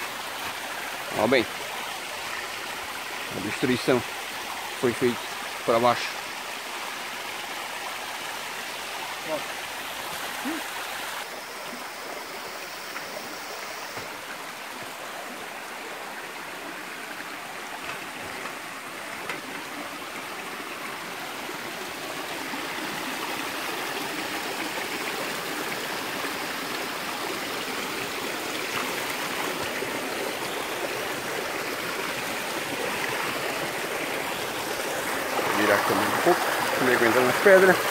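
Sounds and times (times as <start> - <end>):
stream flowing over rocks: 0.0 - 37.9.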